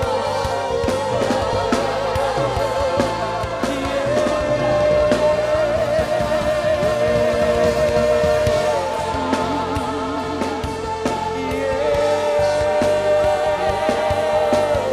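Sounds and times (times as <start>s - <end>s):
drum kit keeping time: 0.0s - 14.9s
worship band playing slow song: 0.0s - 14.9s.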